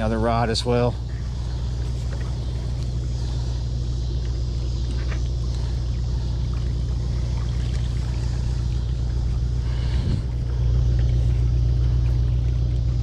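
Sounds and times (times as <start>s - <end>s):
ship engine drone: 0.0s - 13.0s.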